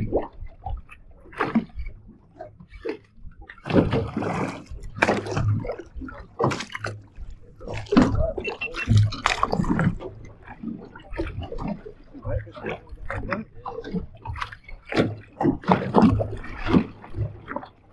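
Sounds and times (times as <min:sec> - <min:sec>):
waves slapping against boat hull: 0:00.0 - 0:17.9.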